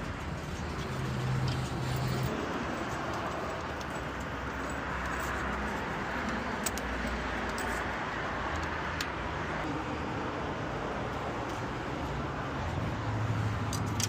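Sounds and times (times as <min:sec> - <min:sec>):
vehicles rumbling: 0:00.0 - 0:14.0.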